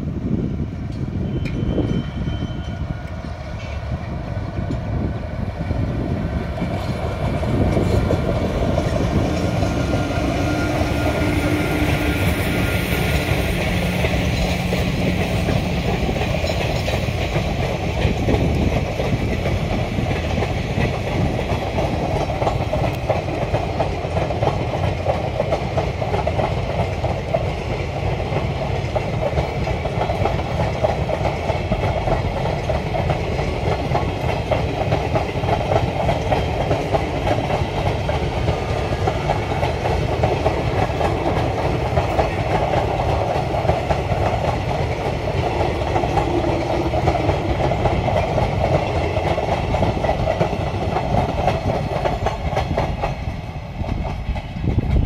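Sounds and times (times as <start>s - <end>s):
train passing at speed: 0.0s - 55.0s
wheels clacking over rails: 6.6s - 55.0s.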